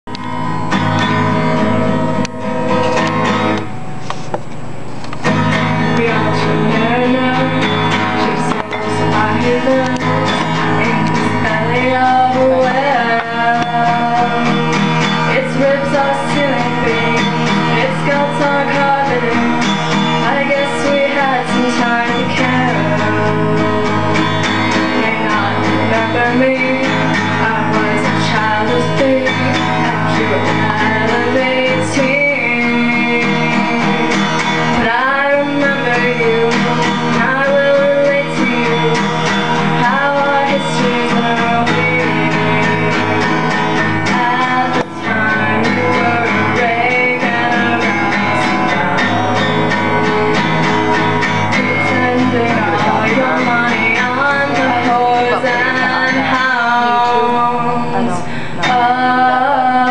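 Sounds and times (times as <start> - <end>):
acoustic guitar playing: 0.0 - 59.9
woman singing: 5.5 - 59.9.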